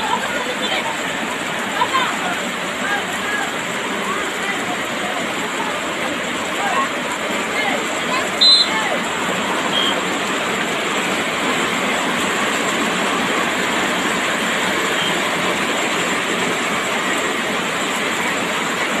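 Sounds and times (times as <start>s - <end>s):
heavy rain splashing on puddles: 0.0s - 19.0s.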